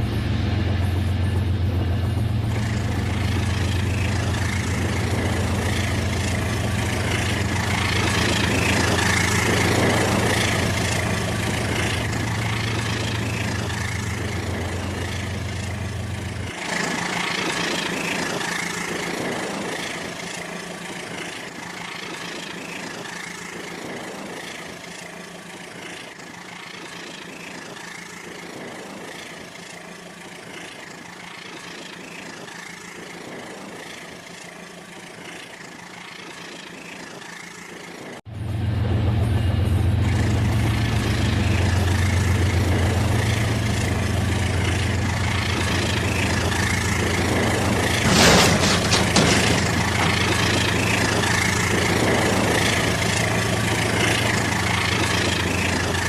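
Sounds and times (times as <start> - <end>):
low hum: 0.0 - 23.5, 32.2 - 56.0.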